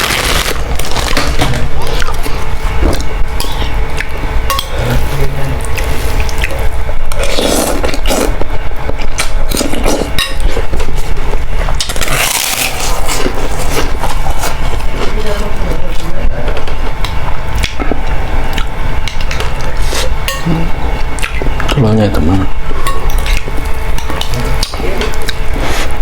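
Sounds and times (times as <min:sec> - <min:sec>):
chewing and crunching: 0:00.0 - 0:04.2, 0:05.6 - 0:20.2, 0:22.9 - 0:26.0.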